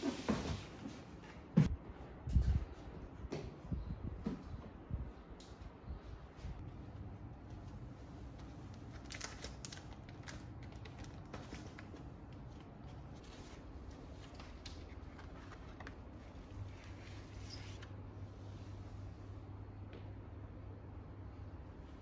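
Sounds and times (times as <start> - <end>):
steady low hum: 0.6 - 22.0.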